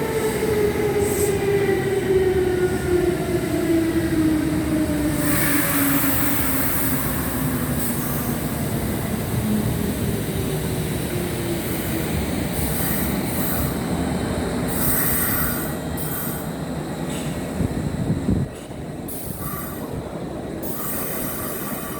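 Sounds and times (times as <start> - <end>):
train wheels and motors rumbling: 0.0 - 21.9.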